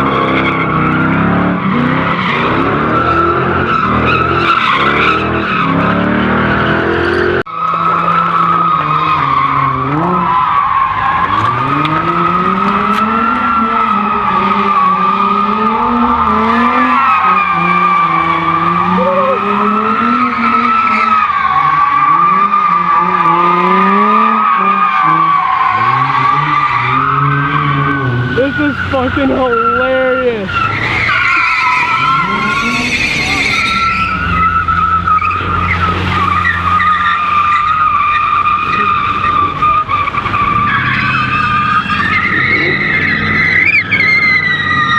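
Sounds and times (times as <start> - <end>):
car engine revving: 0.0 - 44.9
car tires squealing: 0.0 - 44.9.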